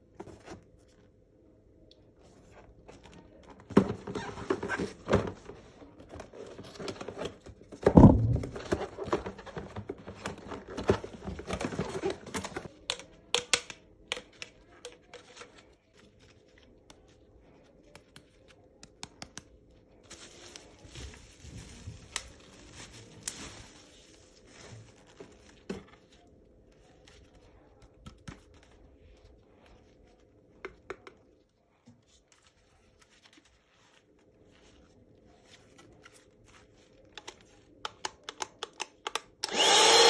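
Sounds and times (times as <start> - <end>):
objects being handled: 2.2 - 40.0.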